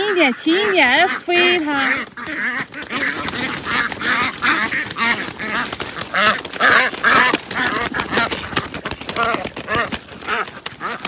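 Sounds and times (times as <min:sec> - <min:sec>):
ducks quacking: 0:00.0 - 0:11.0
wings flapping against netting: 0:00.0 - 0:11.0.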